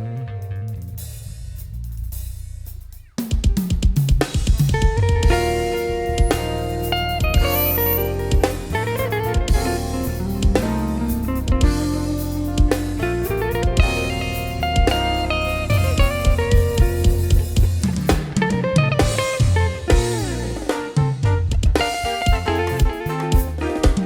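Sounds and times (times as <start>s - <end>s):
bass guitar: 0.0s - 24.0s
drum kit: 0.0s - 24.0s
electric guitar: 4.7s - 24.0s.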